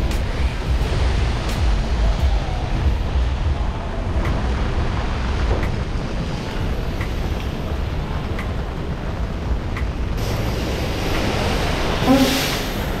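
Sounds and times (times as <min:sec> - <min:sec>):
rain on a street: 0:00.0 - 0:13.0
rain on an umbrella: 0:00.0 - 0:13.0
wind rumbling on microphone: 0:00.0 - 0:13.0.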